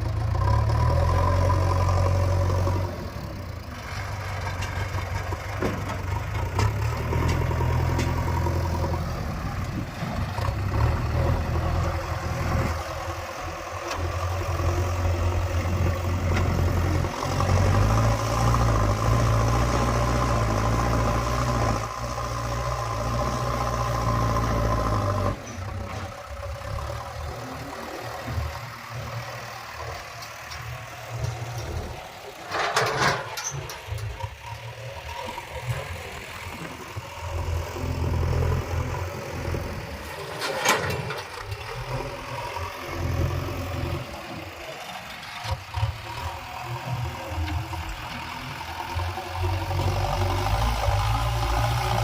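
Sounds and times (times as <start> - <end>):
heavy machinery diesel engine: 0.0 - 52.0.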